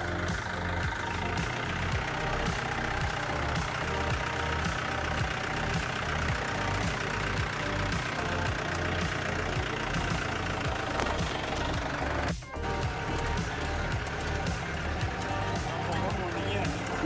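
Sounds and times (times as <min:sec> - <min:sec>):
jeep engine driving past: 0:00.0 - 0:17.0.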